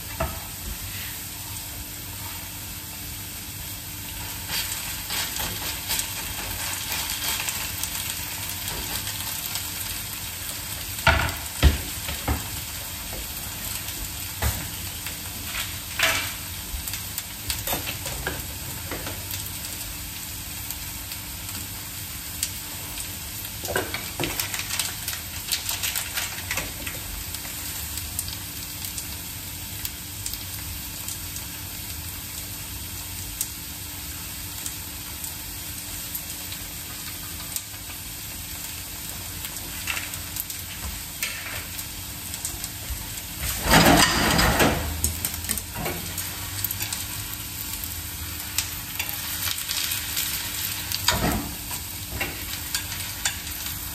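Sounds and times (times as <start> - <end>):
potato frying in oil: 0.0 - 53.9.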